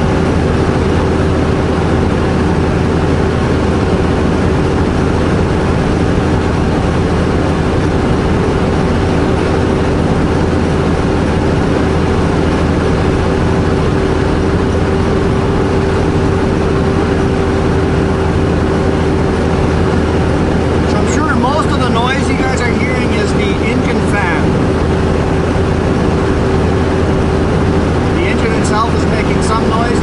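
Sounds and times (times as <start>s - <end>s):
mid-pitched hum: 0.0s - 30.0s
road noise: 0.0s - 30.0s
truck diesel engine: 0.0s - 30.0s.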